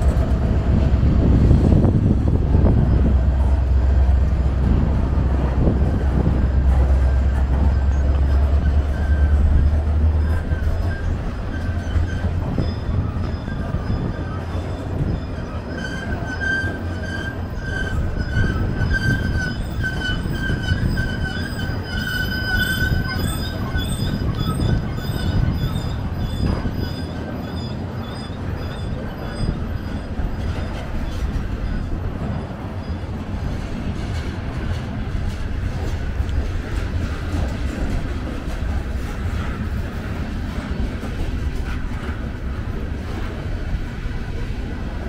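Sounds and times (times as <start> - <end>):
train wheels squealing: 0.0 - 4.5, 5.2 - 44.7
train wheels rumbling on rail: 0.0 - 45.0.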